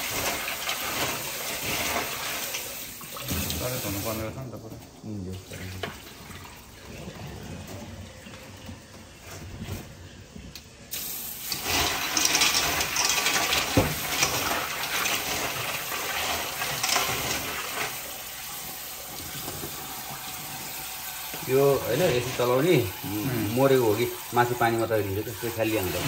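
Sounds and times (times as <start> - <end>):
tap water running: 0.0 - 26.0.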